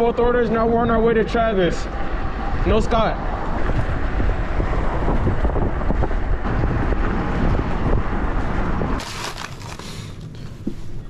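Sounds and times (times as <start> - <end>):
vehicle traffic noise: 0.0 - 11.0
wind buffeting microphone: 0.0 - 11.0.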